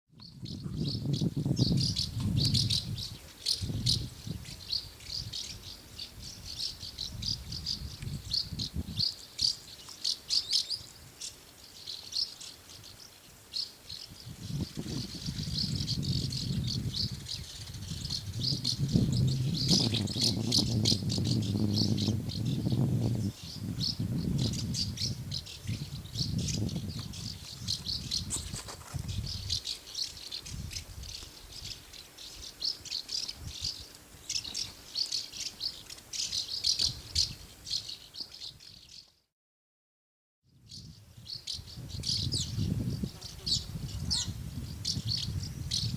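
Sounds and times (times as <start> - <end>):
swallows twittering: 0.2 - 39.1, 40.7 - 45.9.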